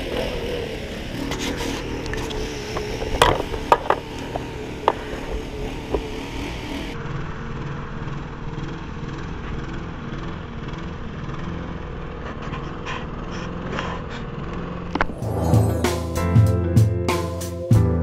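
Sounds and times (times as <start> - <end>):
lawn mower engine running: 0.0 - 12.4, 13.1 - 16.2.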